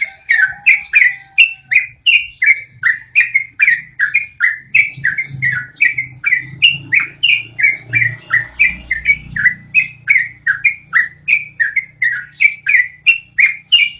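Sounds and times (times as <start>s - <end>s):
bird singing whistled notes: 0.0s - 13.9s.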